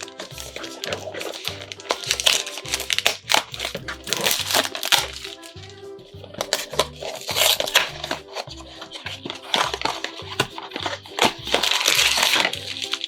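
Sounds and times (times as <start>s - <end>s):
background music with bass line: 0.0s - 13.0s
packaging crinkling: 0.0s - 13.0s.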